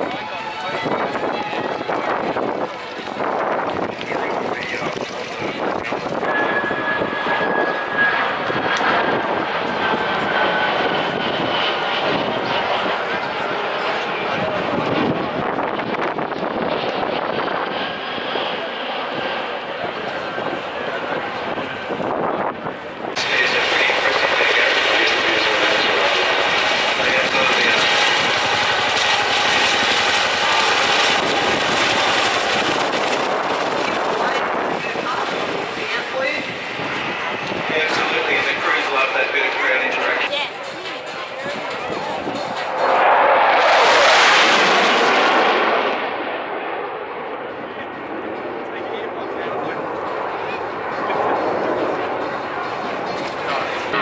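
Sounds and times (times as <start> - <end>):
helicopter rotor beat and engine: 0.0 - 54.0
jet flying past overhead: 0.0 - 54.0.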